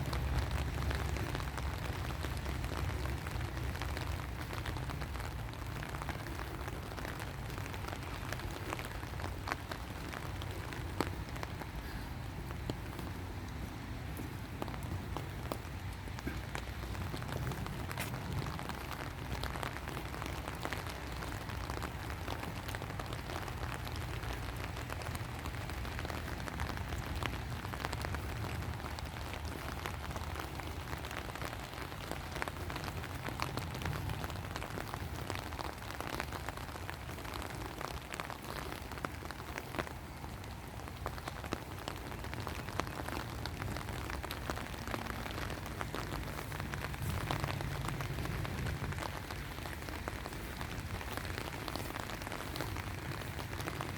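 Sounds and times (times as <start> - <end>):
raindrops tapping: 0.0 - 53.9
steady rain falling: 0.0 - 53.9.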